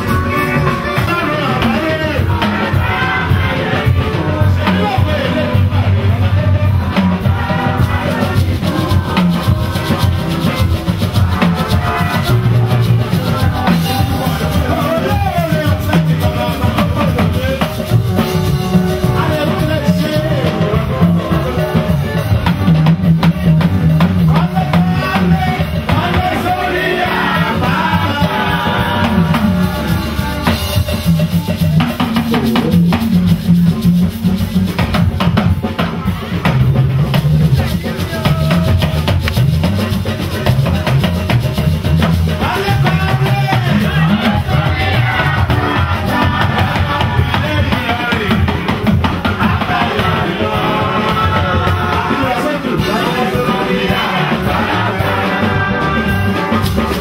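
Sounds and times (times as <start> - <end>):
group singing: 0.0 - 34.5, 37.6 - 57.0
bass line: 0.0 - 57.0
drums and percussion: 0.0 - 57.0.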